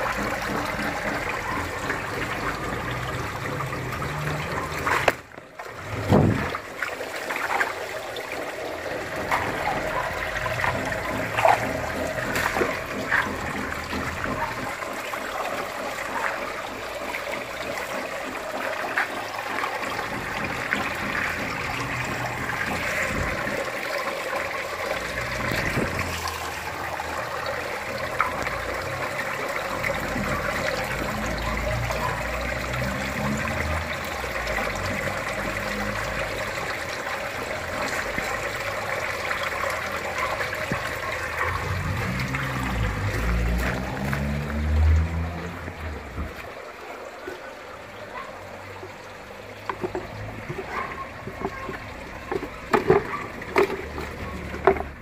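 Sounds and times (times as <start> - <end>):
sharp water splashes: 0.0 - 55.0
water trickling into fish tank: 0.0 - 55.0.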